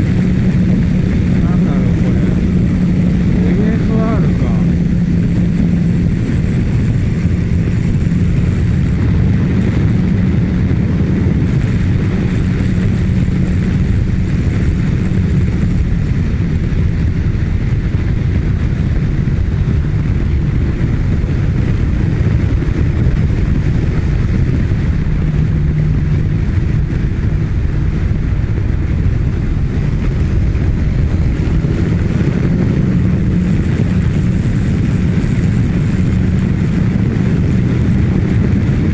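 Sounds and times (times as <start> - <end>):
motorcycle engine cruising: 0.0 - 38.9
wind rumble on microphone: 0.0 - 38.9.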